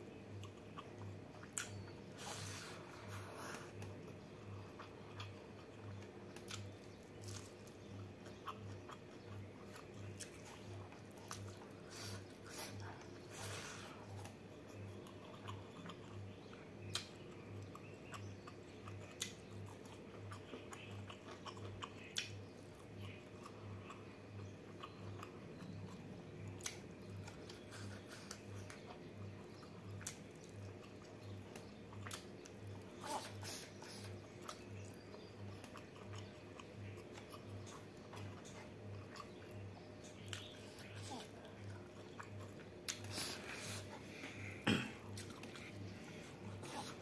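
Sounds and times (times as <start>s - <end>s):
faint pulsing low hum: 0.0s - 47.0s
person chewing food: 0.1s - 47.0s.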